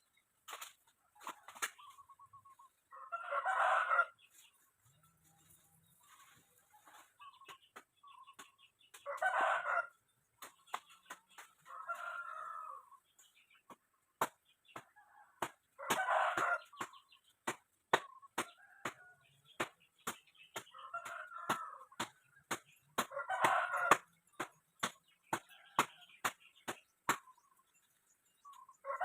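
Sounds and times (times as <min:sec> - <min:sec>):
chickens calling: 0:00.5 - 0:29.0.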